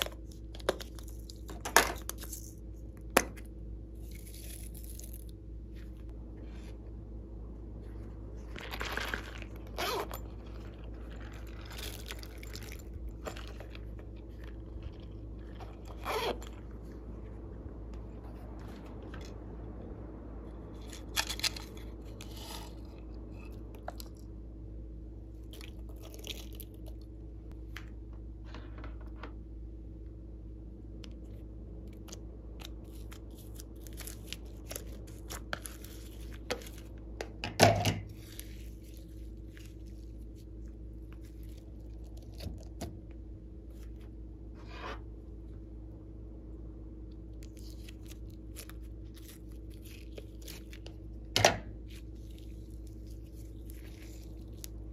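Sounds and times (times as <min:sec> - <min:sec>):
faint hum: 0:00.0 - 0:54.9.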